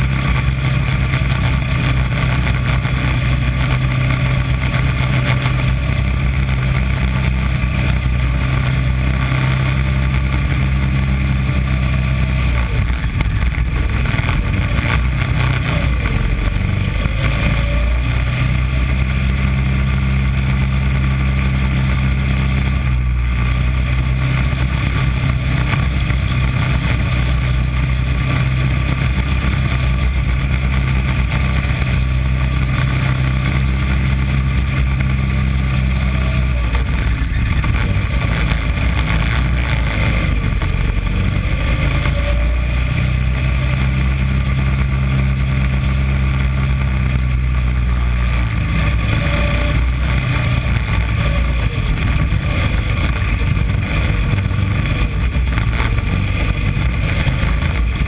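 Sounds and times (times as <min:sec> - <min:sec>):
small race car engine: 0:00.0 - 0:58.0.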